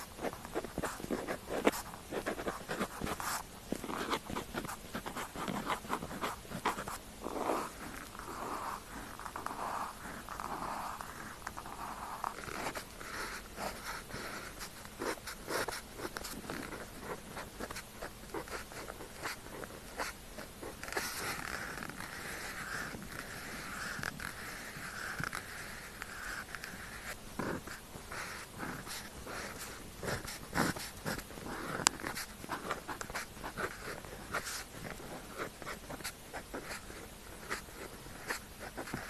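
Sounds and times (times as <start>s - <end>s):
pen scratching on paper: 0.0s - 39.0s.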